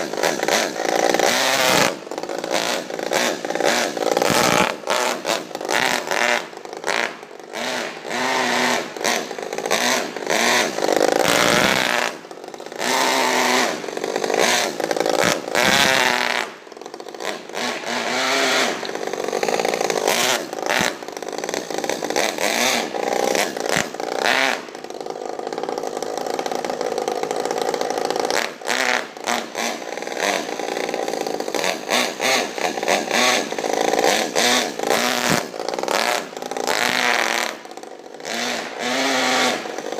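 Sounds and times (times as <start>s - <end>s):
model car engine revving: 0.0s - 39.9s.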